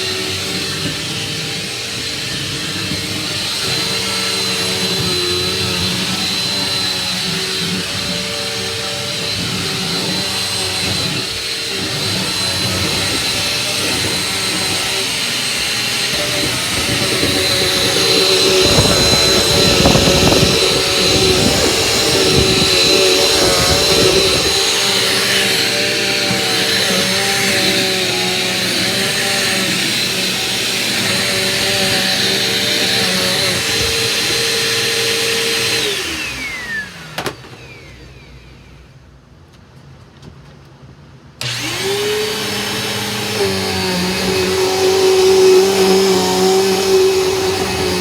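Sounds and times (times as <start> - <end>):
vacuum cleaner motor whining: 0.0 - 39.2, 41.4 - 48.0.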